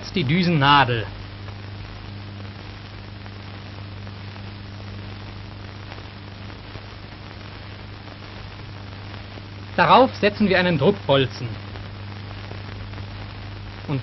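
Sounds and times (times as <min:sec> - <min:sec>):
low mains hum: 0:00.0 - 0:14.0
steady hiss: 0:00.0 - 0:14.0.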